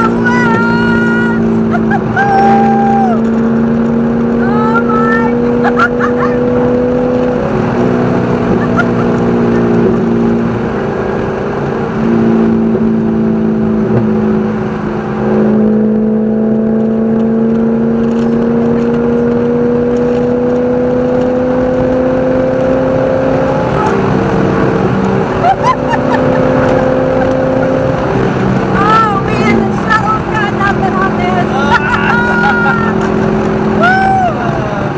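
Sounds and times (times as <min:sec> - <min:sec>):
race car engine at speed: 0:00.0 - 0:34.9.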